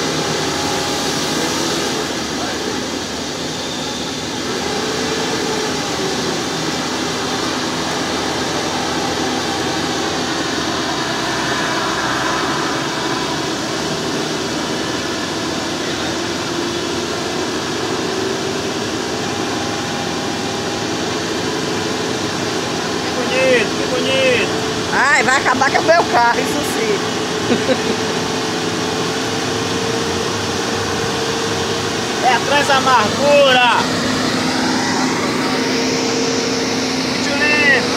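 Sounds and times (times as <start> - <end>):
vehicle engines labouring: 0.0 - 37.9.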